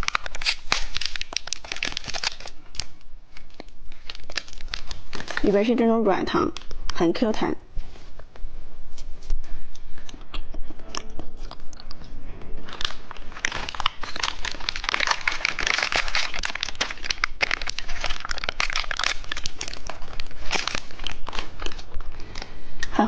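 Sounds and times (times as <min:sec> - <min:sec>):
plastic wrapper crinkling: 0:00.0 - 0:07.2, 0:10.9 - 0:22.8.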